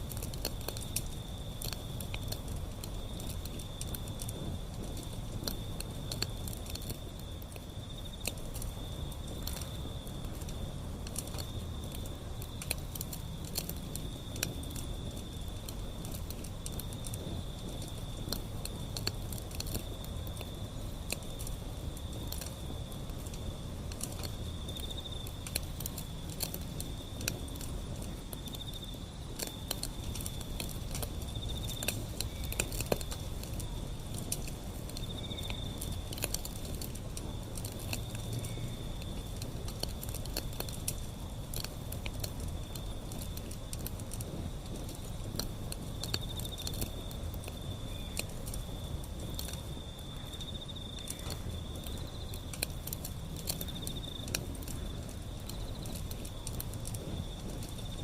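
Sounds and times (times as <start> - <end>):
low rumble of flame: 0.0 - 58.0
wood fire crackling and popping: 0.0 - 58.0.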